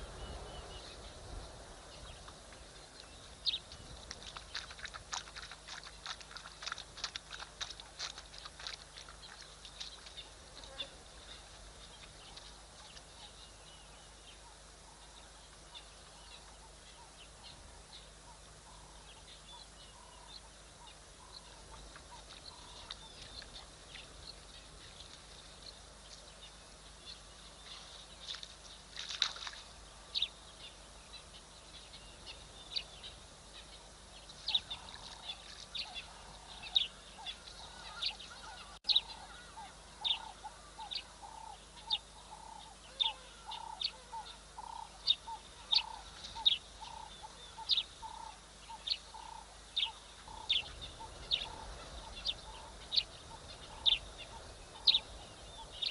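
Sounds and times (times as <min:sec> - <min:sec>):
faint outdoor ambience: 0:00.0 - 0:55.9.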